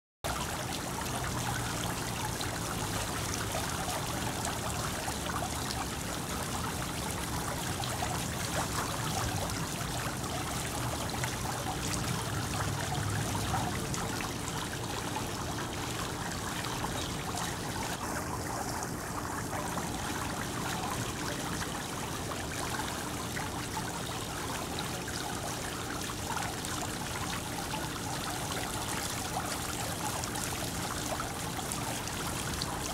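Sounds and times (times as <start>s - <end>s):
water fountain splashing: 0.3s - 32.9s.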